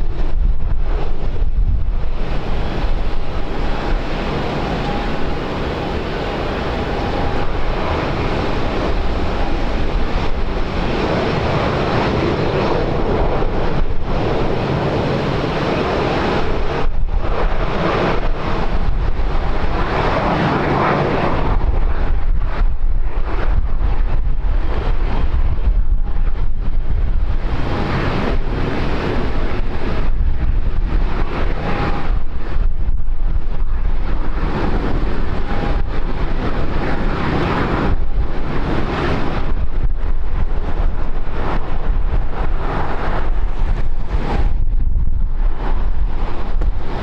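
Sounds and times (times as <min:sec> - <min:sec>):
aircraft engine: 0:00.0 - 0:47.0
wind buffeting microphone: 0:00.0 - 0:47.0.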